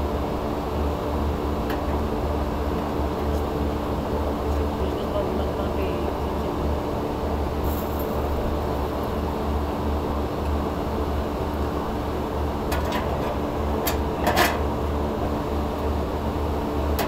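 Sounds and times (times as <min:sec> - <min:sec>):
machinery hum with low drone: 0:00.0 - 0:17.0.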